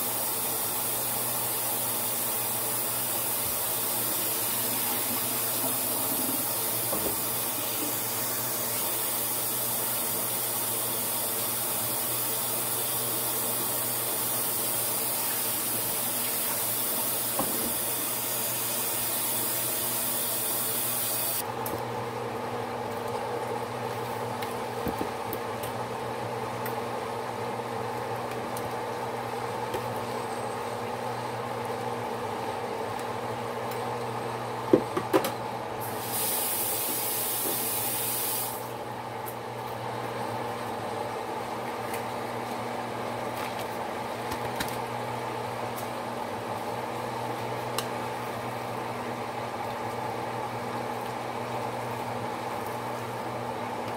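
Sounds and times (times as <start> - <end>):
rice simmering in a pan: 0.0 - 34.6, 35.8 - 53.9.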